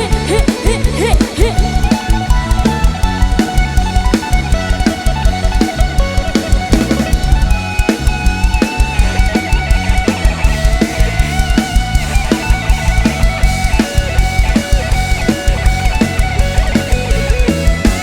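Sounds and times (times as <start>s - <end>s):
driving drum beat: 0.0s - 18.0s
heavy bass: 0.0s - 18.0s
lead melody with bending notes: 0.0s - 18.0s.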